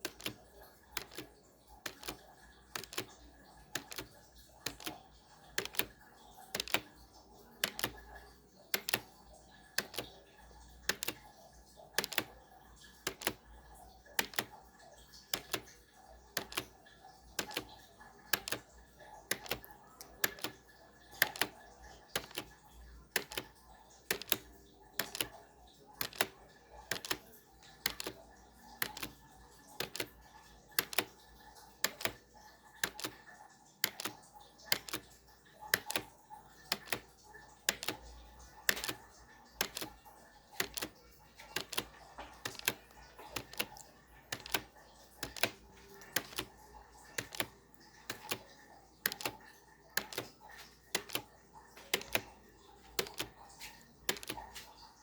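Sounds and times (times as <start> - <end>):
timer ticking: 0.0 - 55.0.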